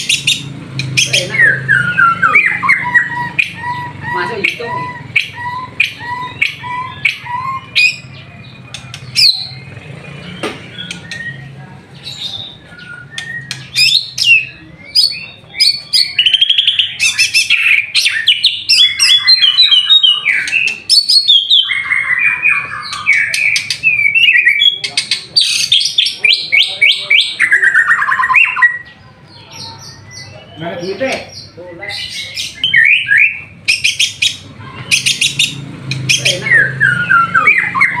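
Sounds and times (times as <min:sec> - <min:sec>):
songbird singing whistled notes: 0:00.0 - 0:29.0, 0:32.2 - 0:38.0.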